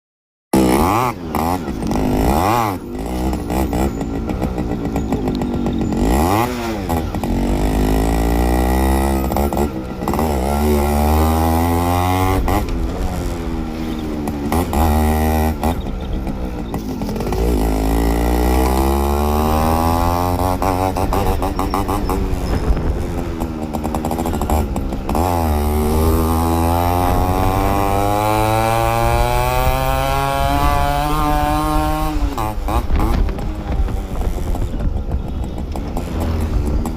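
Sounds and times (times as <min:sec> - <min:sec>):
two-stroke engine revving: 0:00.6 - 0:36.9.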